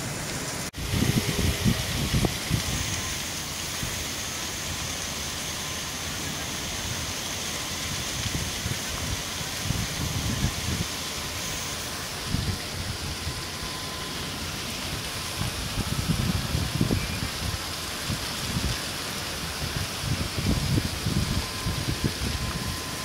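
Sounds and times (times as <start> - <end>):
fire hose spraying water: 0.0 - 23.0.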